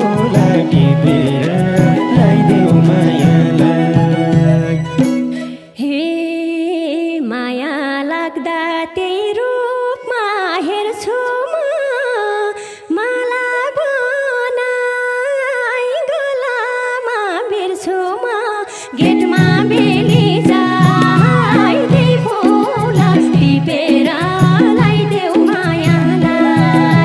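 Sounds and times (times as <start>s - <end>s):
woman singing: 0.0s - 27.0s.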